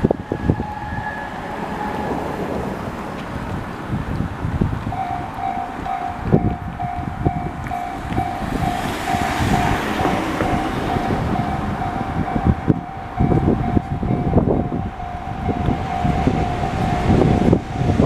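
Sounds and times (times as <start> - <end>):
level-crossing alarm dinging: 0.0 - 2.5, 4.9 - 18.0.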